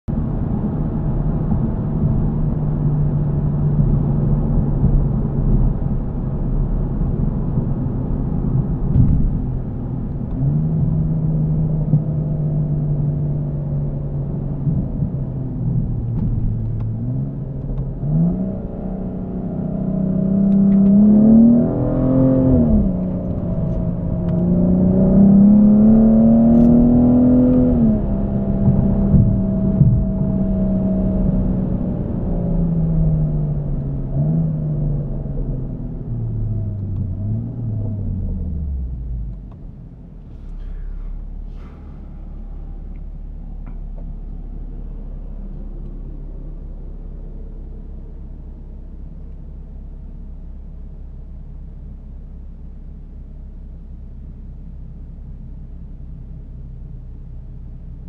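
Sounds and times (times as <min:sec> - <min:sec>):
car engine accelerating: 0:00.1 - 0:52.4.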